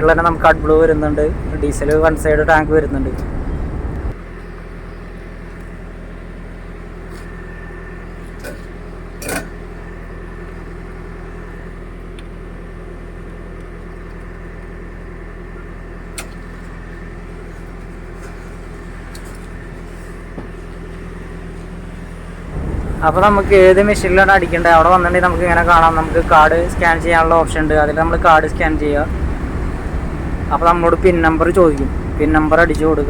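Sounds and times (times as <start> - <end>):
engine idling hum: 0.0 - 33.0.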